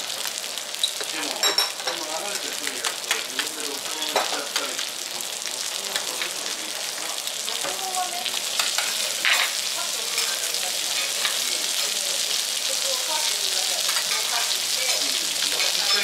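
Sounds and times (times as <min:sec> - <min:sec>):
fish sizzling on a griddle: 0:00.0 - 0:16.0.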